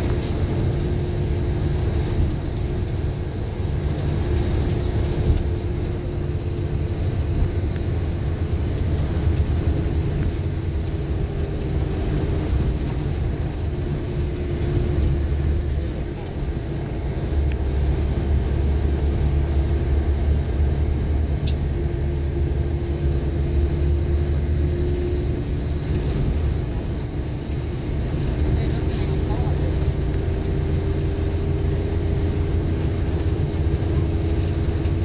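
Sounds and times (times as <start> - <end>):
vehicle road and engine rumble: 0.0 - 35.0.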